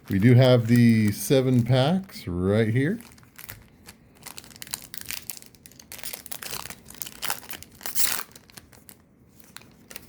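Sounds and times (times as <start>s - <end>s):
packaging ripping: 0.0s - 1.8s, 2.8s - 10.0s
packaging crinkling: 0.0s - 10.0s.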